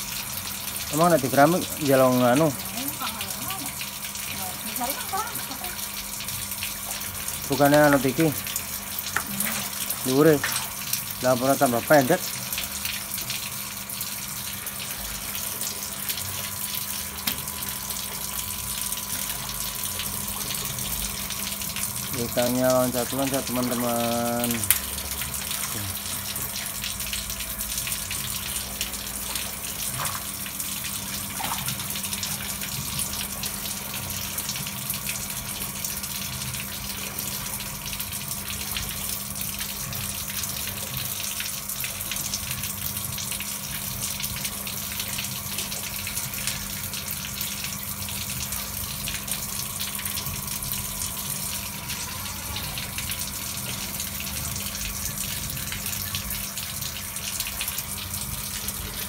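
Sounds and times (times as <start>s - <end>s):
water running and splashing: 0.0s - 59.0s.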